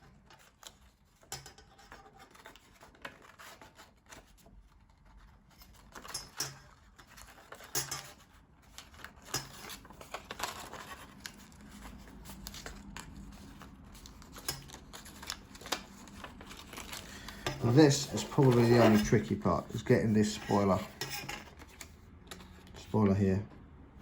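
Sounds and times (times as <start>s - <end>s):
card crinkling and scraping: 0.0s - 23.4s.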